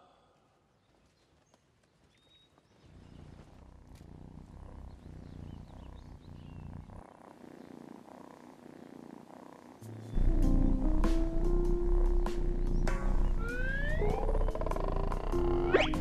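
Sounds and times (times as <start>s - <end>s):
cat purring: 2.8s - 16.0s.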